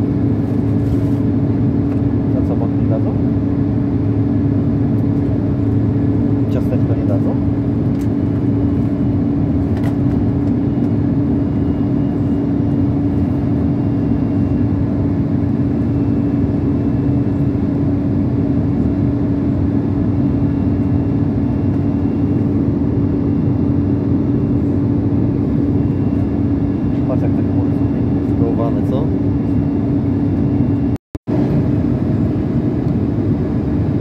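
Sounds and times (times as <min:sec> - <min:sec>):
constant low hum: 0:00.0 - 0:34.0
jet cabin engine and airflow rush: 0:00.0 - 0:34.0.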